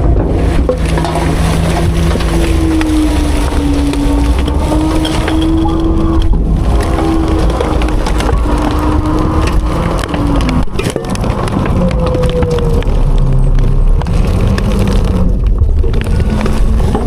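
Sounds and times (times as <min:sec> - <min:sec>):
refuse crackling as crushed: 0:00.0 - 0:17.0.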